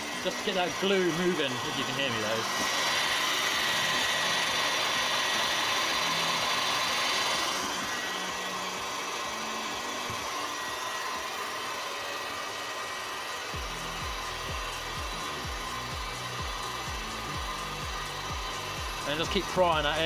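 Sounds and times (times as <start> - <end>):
heat gun blowing air: 0.0 - 20.0.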